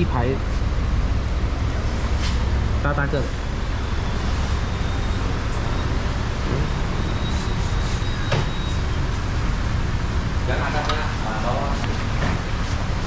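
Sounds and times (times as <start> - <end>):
low mechanical rumble with hiss: 0.0 - 13.0.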